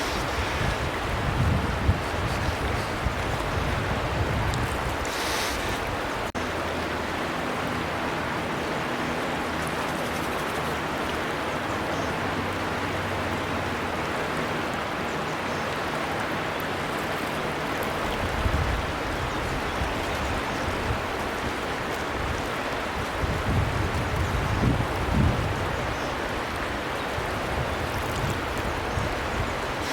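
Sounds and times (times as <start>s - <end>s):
river water flowing: 0.0s - 29.9s.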